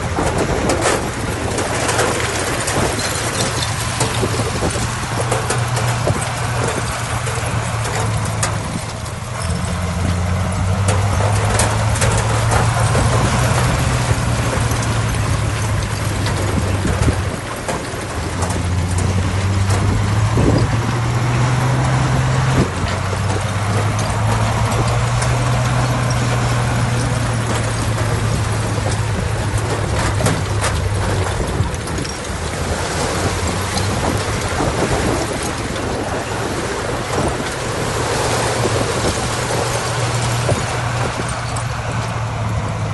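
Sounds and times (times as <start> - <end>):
clicks and knocks: 0.0 - 42.3
heavy machinery diesel engine: 0.0 - 42.9.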